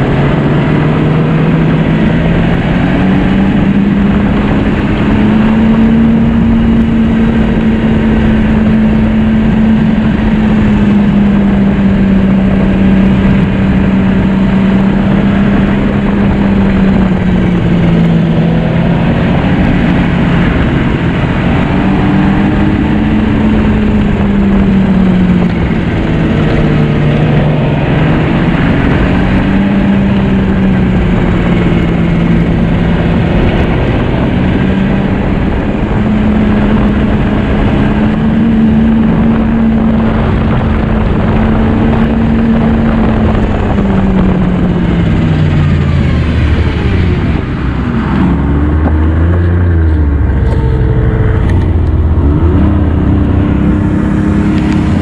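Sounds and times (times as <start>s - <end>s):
snowmobile engine running: 0.0s - 55.0s
steady rushing noise: 0.0s - 55.0s.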